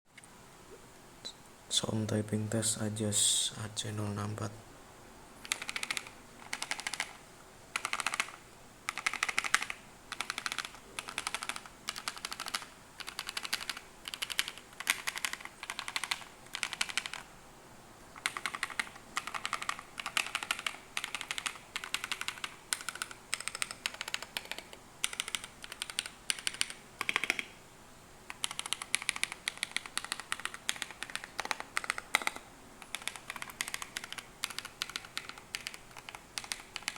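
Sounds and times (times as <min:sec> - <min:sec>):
mechanical keyboard typing: 0:05.4 - 0:17.3, 0:18.2 - 0:27.6, 0:28.3 - 0:36.9.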